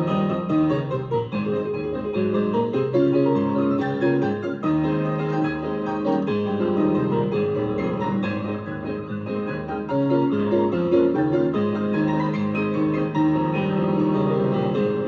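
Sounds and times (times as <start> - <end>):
piano playing chords and melody: 0.0 - 15.0.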